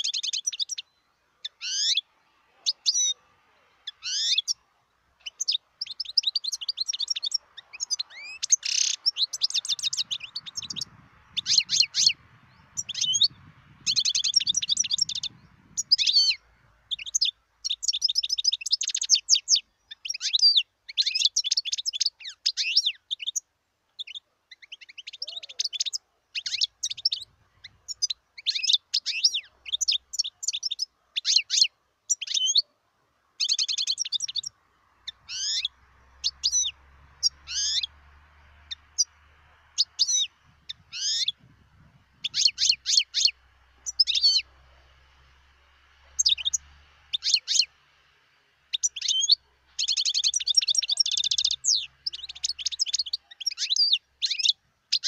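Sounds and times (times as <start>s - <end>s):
goldfinch twittering song: 0.0s - 3.2s, 3.8s - 32.7s, 33.4s - 47.8s, 48.7s - 55.0s.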